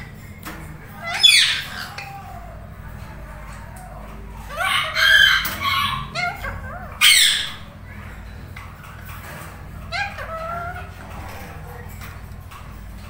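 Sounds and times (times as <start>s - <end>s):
parakeets chirping: 0.0s - 13.0s.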